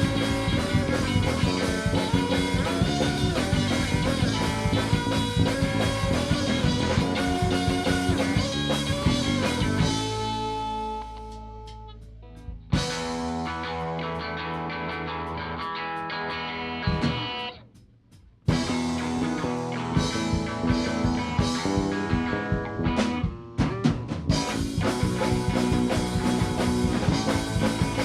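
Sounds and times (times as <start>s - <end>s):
ringing guitar chords: 0.0s - 17.7s, 18.5s - 23.6s, 24.4s - 28.0s
rock band playing: 0.0s - 28.0s.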